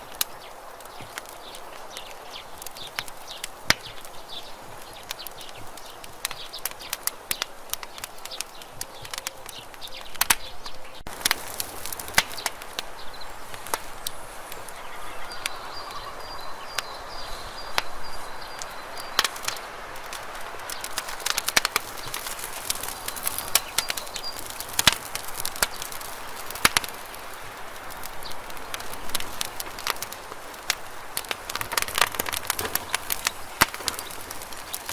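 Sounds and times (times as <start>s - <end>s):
campfire crackling: 0.0s - 34.9s.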